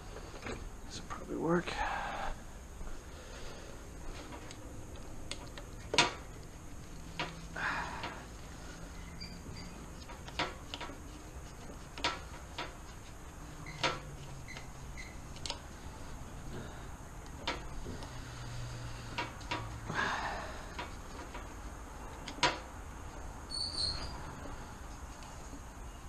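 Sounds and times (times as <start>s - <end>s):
scraping rustle: 2.9s - 26.0s.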